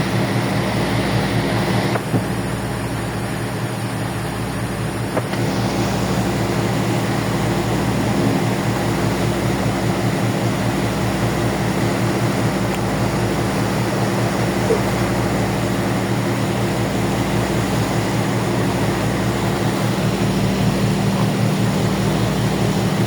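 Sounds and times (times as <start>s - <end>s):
ferry engines humming: 0.0s - 23.0s.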